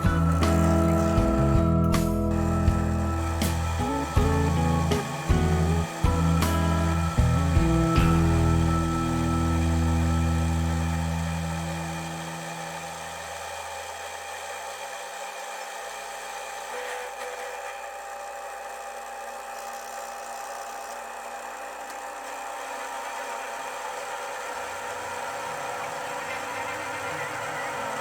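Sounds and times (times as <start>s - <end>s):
metalworking machine whining: 0.0s - 28.0s.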